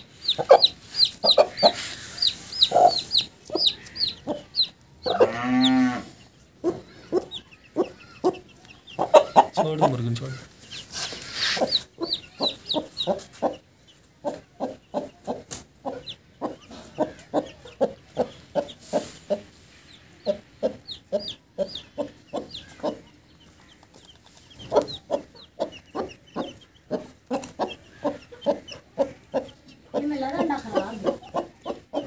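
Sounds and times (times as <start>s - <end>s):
chicks peeping: 0.0s - 32.0s
hen clucking: 0.0s - 32.0s.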